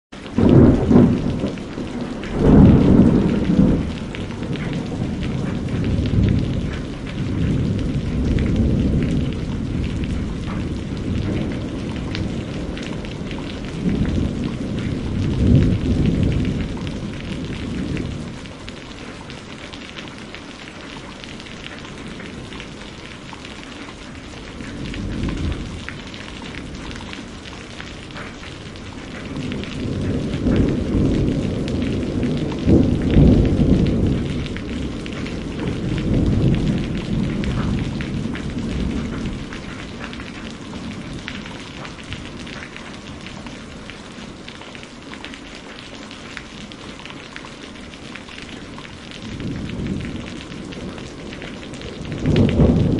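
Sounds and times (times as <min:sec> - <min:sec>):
steady rain: 0:00.1 - 0:52.9
rolling thunder: 0:00.2 - 0:20.3, 0:21.3 - 0:44.5, 0:47.9 - 0:52.9.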